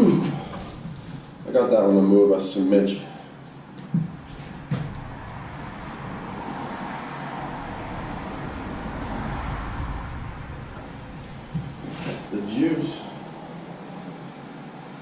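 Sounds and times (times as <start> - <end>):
road vehicle passing: 0.3 - 1.4, 3.3 - 15.0.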